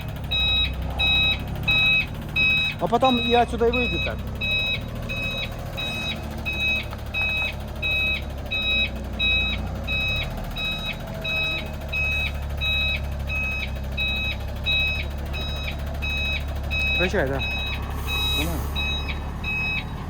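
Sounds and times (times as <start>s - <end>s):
truck engine idling: 0.0s - 20.0s
truck reversing alarm beeping: 0.0s - 20.0s.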